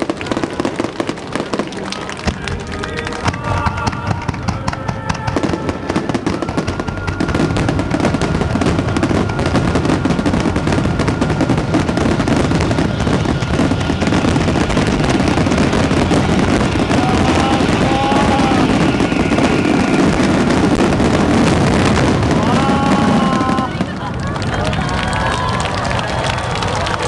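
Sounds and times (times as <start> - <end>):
fireworks bursts and crackles: 0.0 - 27.0.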